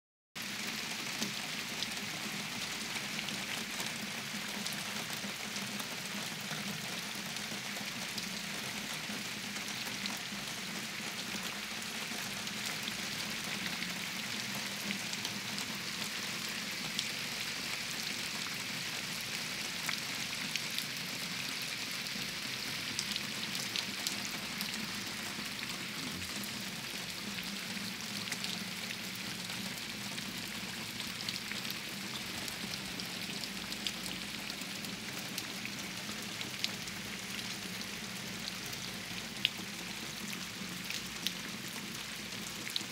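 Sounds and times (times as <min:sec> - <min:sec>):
rain falling on leaves: 0:00.4 - 0:42.9.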